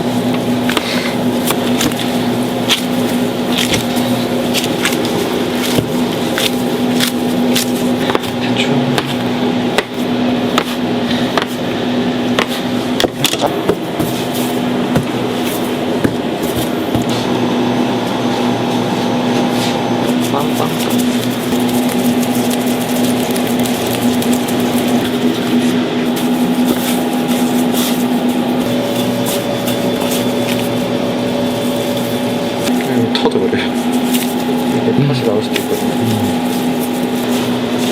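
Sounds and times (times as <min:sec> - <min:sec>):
kitchen machine humming: 0:00.0 - 0:37.9.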